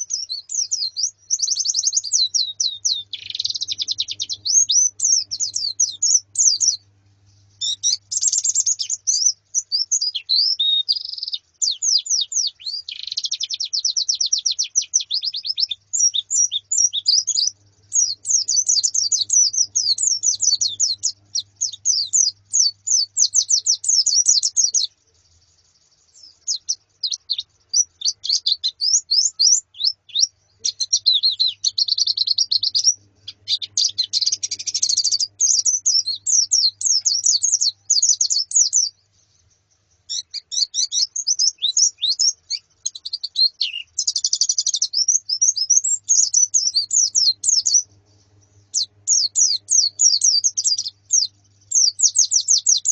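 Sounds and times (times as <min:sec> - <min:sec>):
birds twittering: 0:00.0 - 0:52.9.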